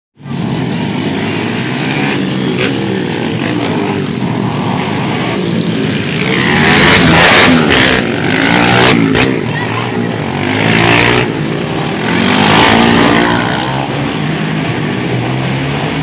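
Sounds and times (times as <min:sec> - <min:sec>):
racing motorcycles revving: 0:00.2 - 0:16.0.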